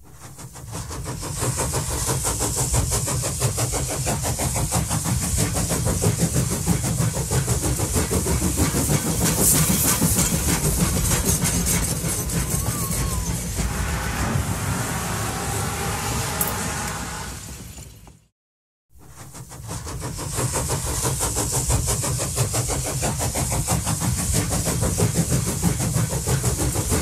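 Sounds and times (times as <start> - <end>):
steam locomotive exhaust beats: 0.0 - 18.3, 19.0 - 27.0.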